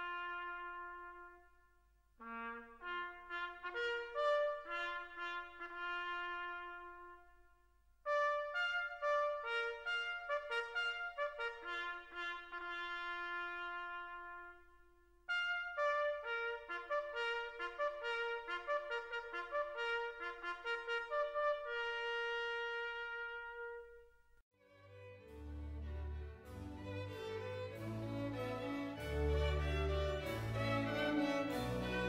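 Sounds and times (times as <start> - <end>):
slow brass melody with trumpet: 0.0 - 24.2, 26.4 - 32.0.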